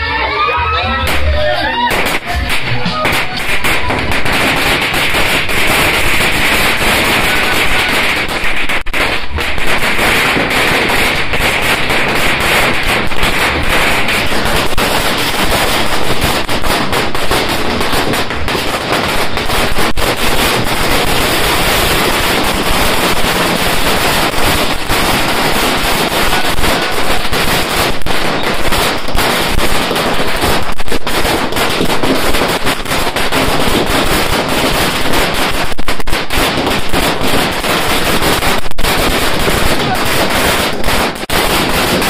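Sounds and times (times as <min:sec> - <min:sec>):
firecrackers crackling: 0:01.0 - 0:42.0.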